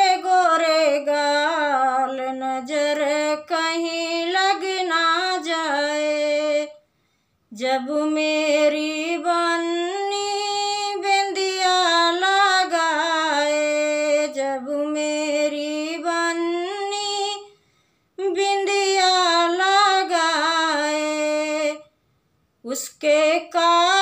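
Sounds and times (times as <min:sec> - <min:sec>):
woman singing unaccompanied: 0:00.0 - 0:06.8, 0:07.5 - 0:17.5, 0:18.2 - 0:21.9, 0:22.6 - 0:24.0.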